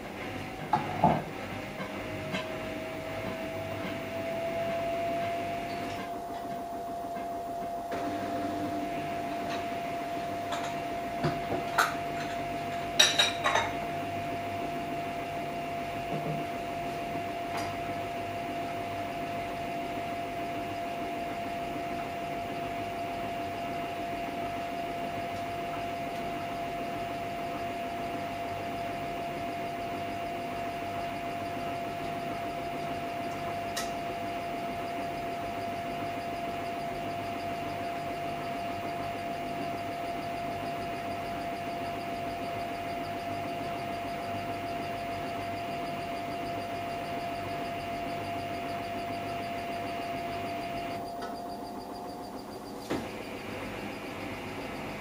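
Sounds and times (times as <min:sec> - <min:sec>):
washing machine motor whine: 0:00.0 - 0:55.0.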